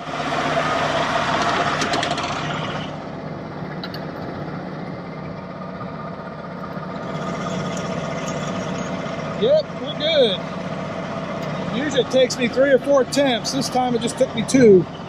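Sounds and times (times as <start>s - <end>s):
combine engine idling: 0.0s - 15.0s.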